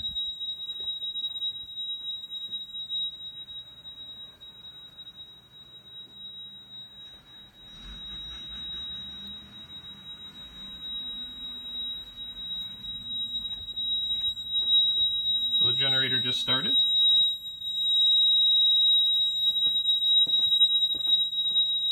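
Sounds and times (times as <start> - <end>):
high-pitched electronic alarm tone: 0.0 - 21.9.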